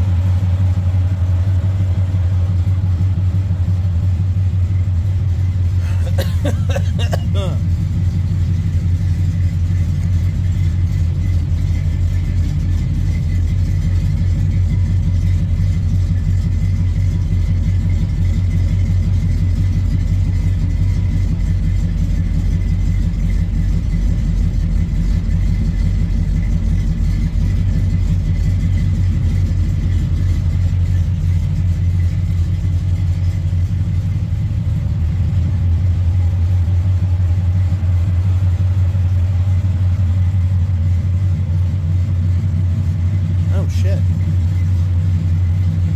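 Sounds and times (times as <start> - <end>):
pickup engine idling: 0.0 - 45.9.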